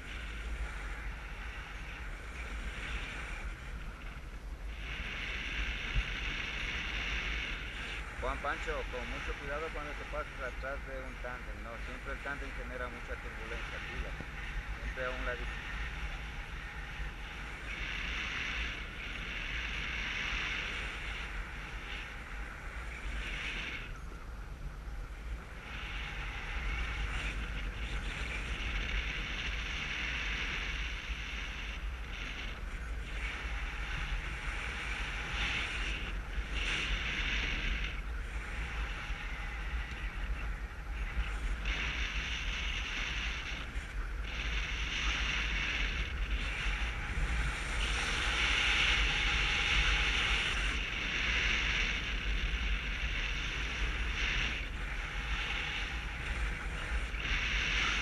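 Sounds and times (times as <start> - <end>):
deep wind rumble: 0.0 - 58.0
wind rushing over microphone: 0.0 - 58.0.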